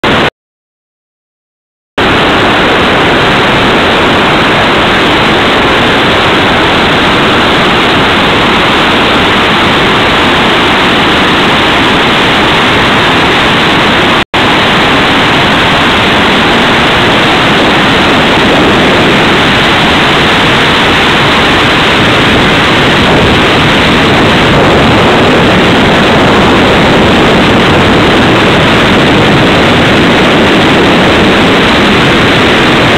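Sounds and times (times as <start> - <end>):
waterfall rushing: 2.0 - 32.9.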